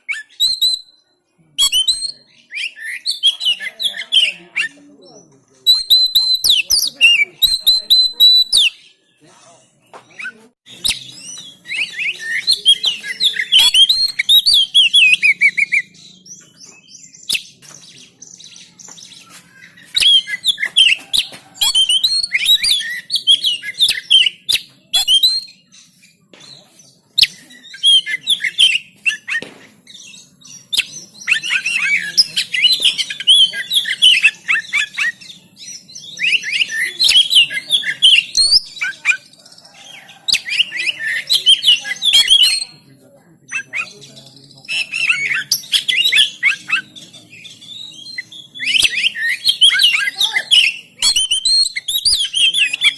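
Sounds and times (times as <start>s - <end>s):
bird singing: 0.0s - 52.9s.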